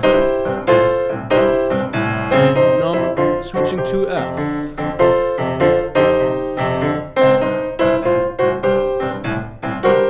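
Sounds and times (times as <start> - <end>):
boogie-woogie piano: 0.0 - 10.0.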